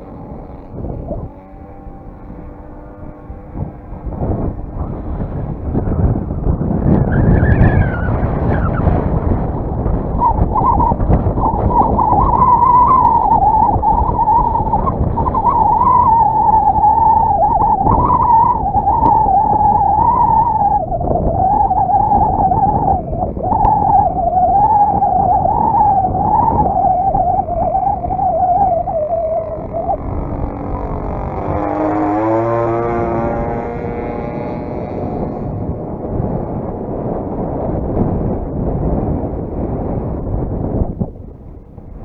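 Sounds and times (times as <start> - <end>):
model airplane engine droning: 0.0 - 42.0
wind buffeting microphone: 0.0 - 42.0.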